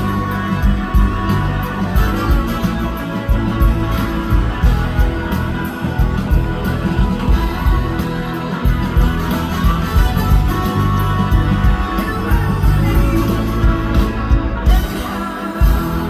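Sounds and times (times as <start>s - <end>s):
bass: 0.0s - 16.0s
electric guitar: 0.0s - 16.0s
live band playing: 0.0s - 16.0s
steady drum beat: 0.0s - 16.0s.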